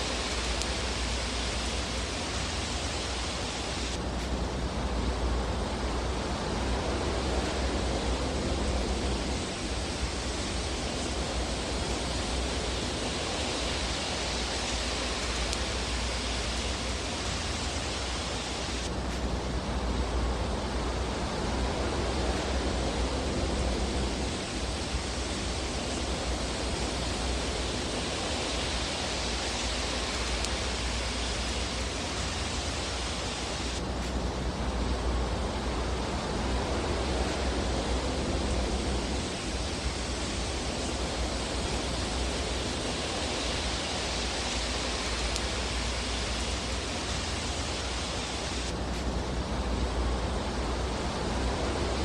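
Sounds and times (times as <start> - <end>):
fire hissing: 0.0 - 52.0.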